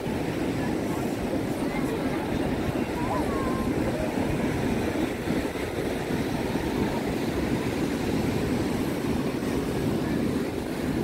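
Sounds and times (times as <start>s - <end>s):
surf breaking on a beach: 0.0s - 11.0s
wind on the microphone: 0.0s - 11.0s.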